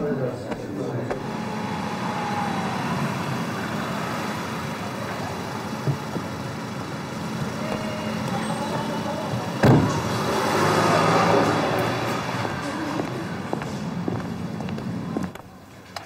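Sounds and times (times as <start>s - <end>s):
vehicle running noise: 0.5s - 16.0s.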